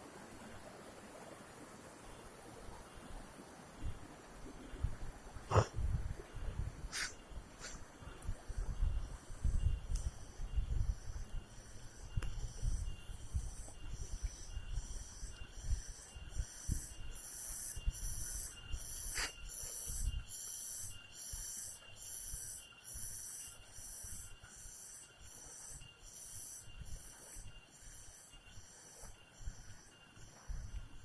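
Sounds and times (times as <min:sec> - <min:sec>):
insect chorus pulsing: 0:04.6 - 0:31.0.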